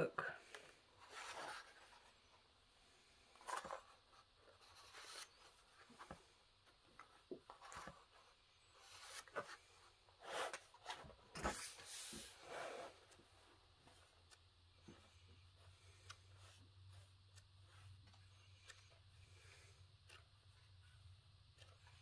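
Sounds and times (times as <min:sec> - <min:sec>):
book pages turning: 0:00.6 - 0:02.4, 0:03.3 - 0:22.0.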